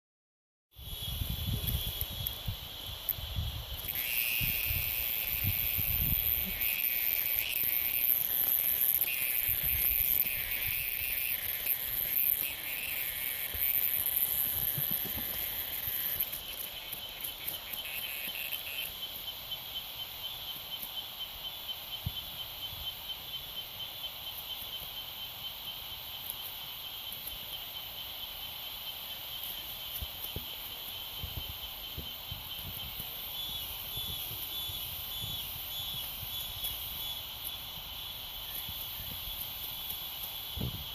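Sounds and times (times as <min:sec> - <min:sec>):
cicada distress buzz: 0:00.8 - 0:40.9
pulsing insect chorus: 0:00.8 - 0:40.9.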